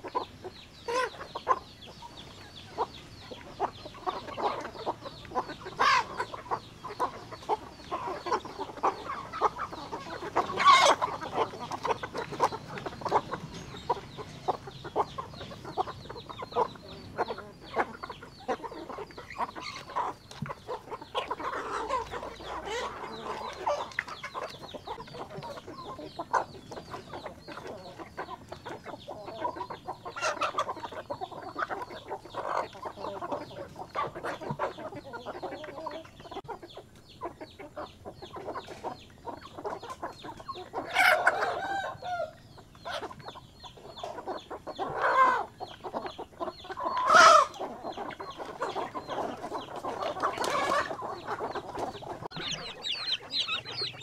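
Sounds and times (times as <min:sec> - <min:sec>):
chickens clucking: 0:00.0 - 0:54.0
loud chicken calls: 0:00.0 - 0:54.0.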